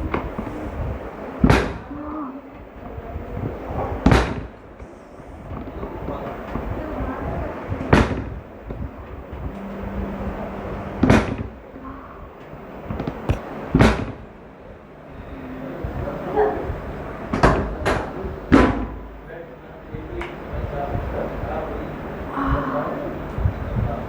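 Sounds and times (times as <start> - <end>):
low background murmur: 0.0 - 24.0.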